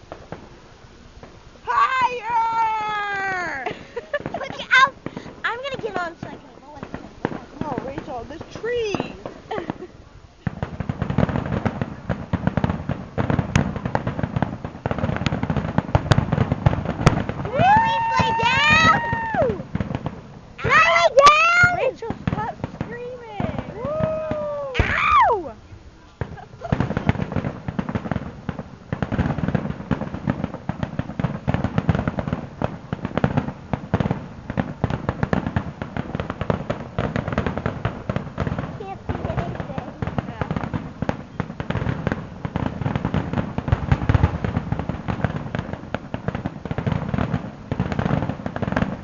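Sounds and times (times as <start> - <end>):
sharp firework cracks: 0.0 - 0.6, 1.2 - 25.6, 26.2 - 49.0
fireworks crackling and popping: 0.0 - 49.0.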